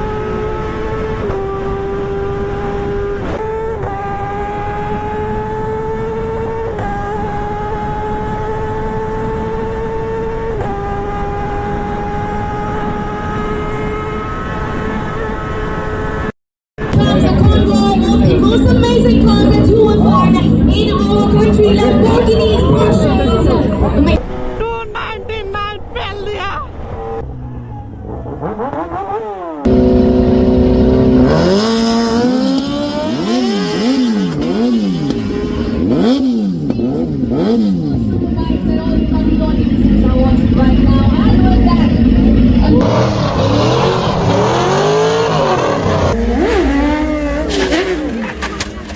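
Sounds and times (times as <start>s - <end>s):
engine high-pitched hum: 0.0s - 26.0s, 26.6s - 48.8s.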